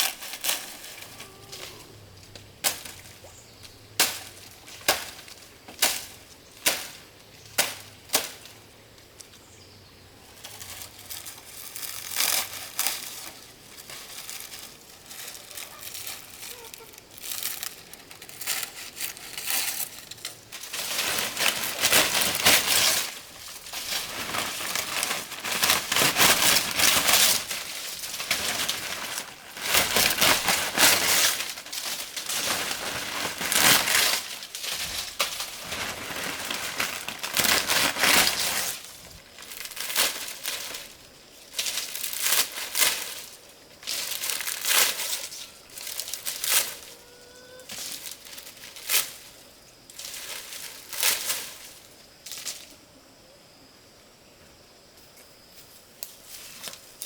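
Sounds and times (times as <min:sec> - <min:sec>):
dry material rustling and crinkling: 0:00.0 - 0:08.6, 0:10.3 - 0:47.0, 0:47.6 - 0:52.7.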